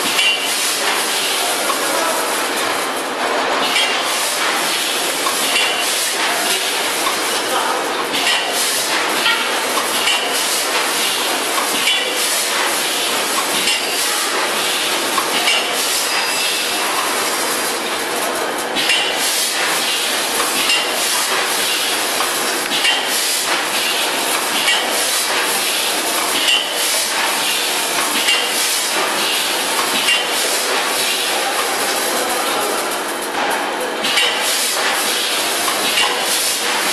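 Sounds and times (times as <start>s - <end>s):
packaging machine hiss: 0.0s - 3.0s, 3.6s - 36.9s.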